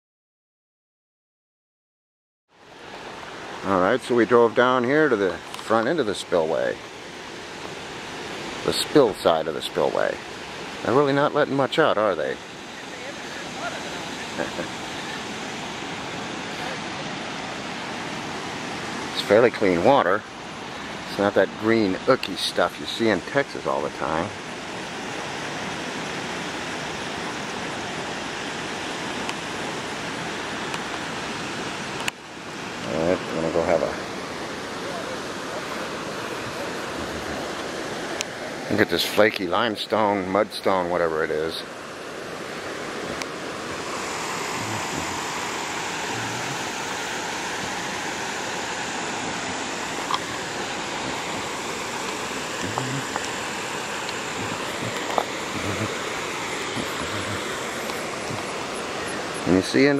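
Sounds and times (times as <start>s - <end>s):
water rushing from dam spillway: 2.6s - 59.9s.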